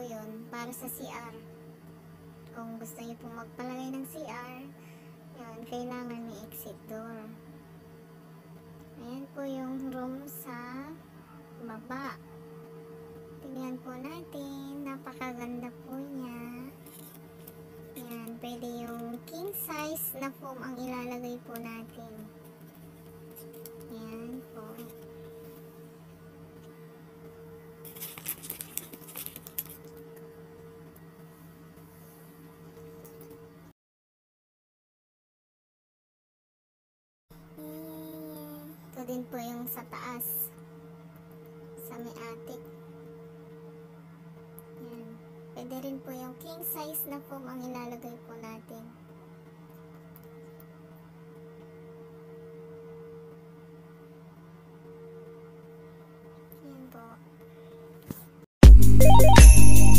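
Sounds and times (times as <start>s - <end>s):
steady low hum: 0.0s - 33.7s, 37.4s - 59.9s.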